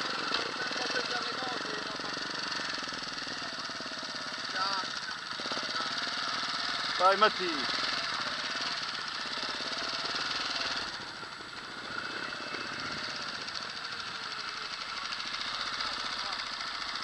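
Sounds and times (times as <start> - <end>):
motorcycle engine puttering: 0.0 - 17.0.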